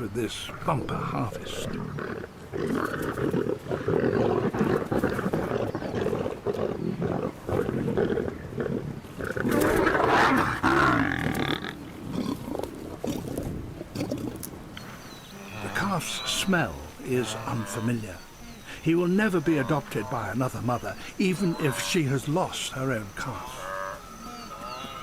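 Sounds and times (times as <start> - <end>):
lions snarling and growling: 0.4 - 18.6, 19.2 - 25.0.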